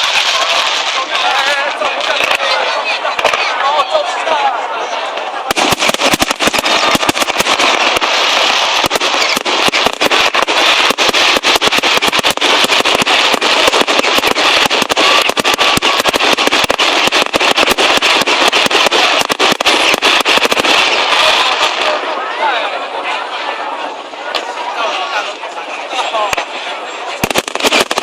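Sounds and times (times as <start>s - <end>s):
fireworks bangs and crackles: 0.0s - 23.3s, 23.9s - 28.0s.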